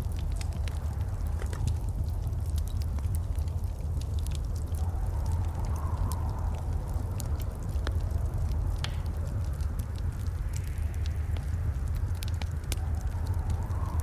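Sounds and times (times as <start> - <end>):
sharp pops from fire: 0.0 - 6.3, 7.8 - 13.7
low rumble of burning: 0.0 - 14.0
wood fire crackling: 0.0 - 14.0.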